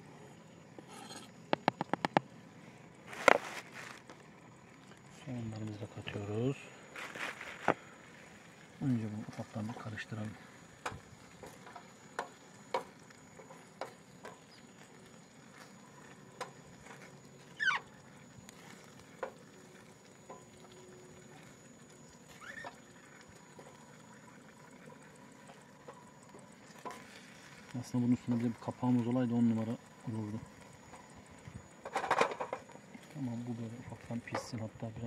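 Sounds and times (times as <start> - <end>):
faint steady sizzle: 0.0 - 35.0.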